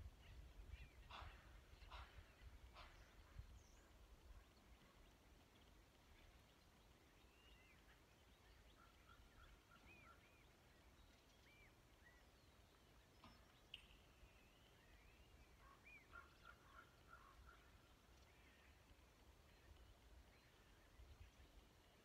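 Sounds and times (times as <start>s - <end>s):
faint birdsong chirps: 0.0s - 22.0s.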